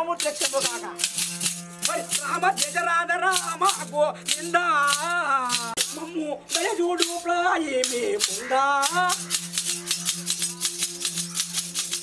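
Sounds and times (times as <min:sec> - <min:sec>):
man chanting a devotional song: 0:00.0 - 0:10.2
string instrument drone: 0:00.0 - 0:12.0
wooden clappers clattering: 0:00.1 - 0:12.0.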